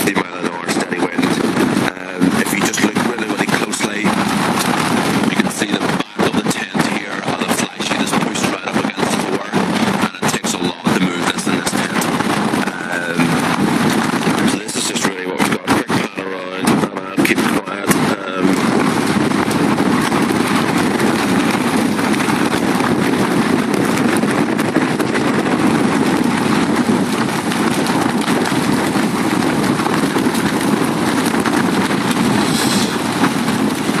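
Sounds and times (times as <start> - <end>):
tent fabric flapping in wind: 0.0 - 34.0.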